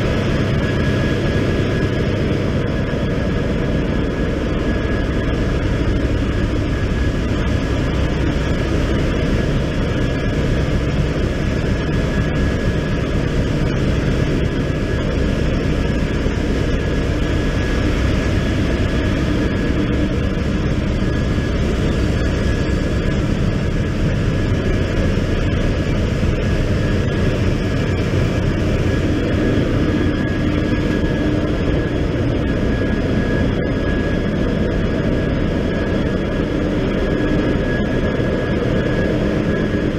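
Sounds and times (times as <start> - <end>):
thin steady whine: 0.0 - 39.9.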